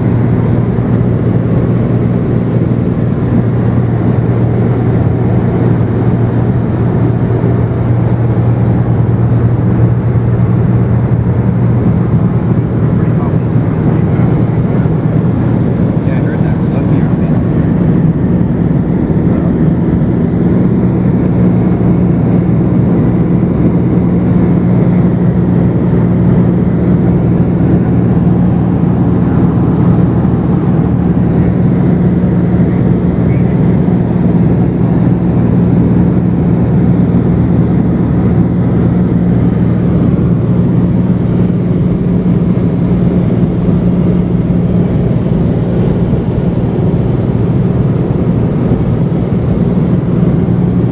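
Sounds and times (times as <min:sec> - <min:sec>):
light airplane engine droning: 0:00.0 - 0:50.9.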